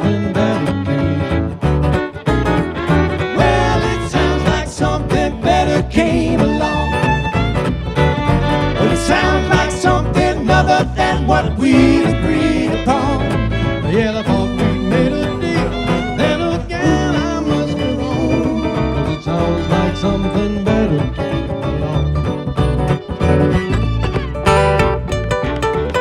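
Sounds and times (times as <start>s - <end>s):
bluegrass string band playing: 0.0s - 26.0s.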